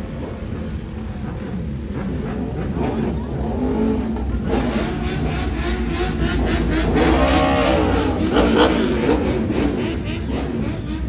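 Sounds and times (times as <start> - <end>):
engine revving: 0.0 - 11.0
vehicle engine rumbling: 0.0 - 11.0.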